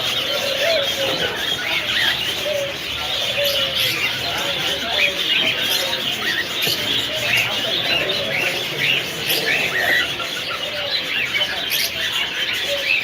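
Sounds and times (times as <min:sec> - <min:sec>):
parrots chirping and squawking: 0:00.0 - 0:13.0.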